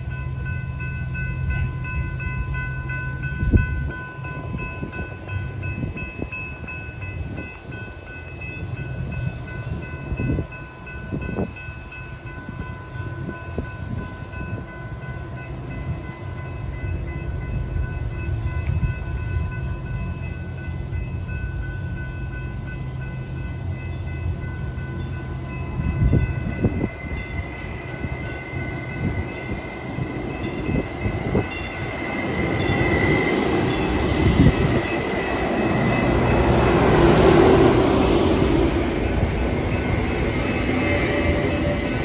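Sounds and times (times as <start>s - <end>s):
train rumble with faint whine: 0.0s - 42.0s
train wheel and rail noise: 0.0s - 42.0s.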